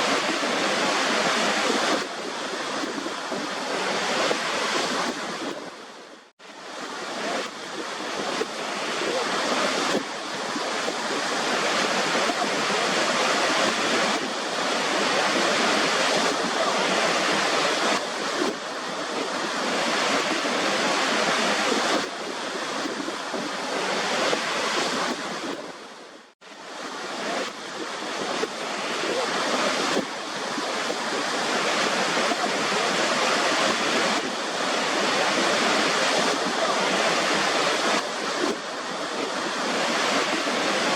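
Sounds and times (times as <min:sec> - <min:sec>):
waterfall rushing: 0:00.0 - 0:05.9, 0:06.5 - 0:26.0, 0:26.6 - 0:40.9.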